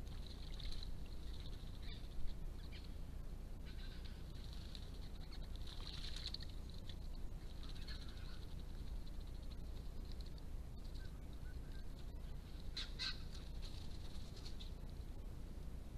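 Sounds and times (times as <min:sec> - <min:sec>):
birds splashing in water: 0:00.0 - 0:02.9, 0:03.7 - 0:14.9
steady low hiss: 0:00.0 - 0:15.9
faint bird calls: 0:00.3 - 0:03.0, 0:03.6 - 0:14.9.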